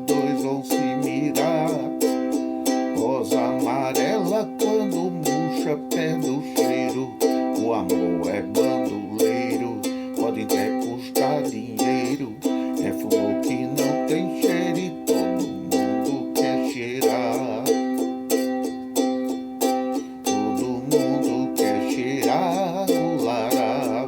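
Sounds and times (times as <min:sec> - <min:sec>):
ukulele strumming: 0:00.0 - 0:24.0.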